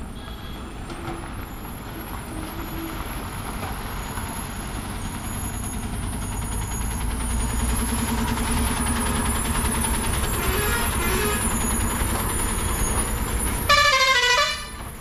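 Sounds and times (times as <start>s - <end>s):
lorry diesel engine rumbling: 0.0s - 15.0s.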